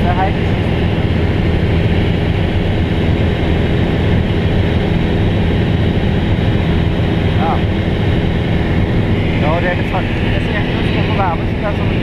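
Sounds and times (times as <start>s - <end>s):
airplane engine and propeller drone: 0.0s - 12.0s.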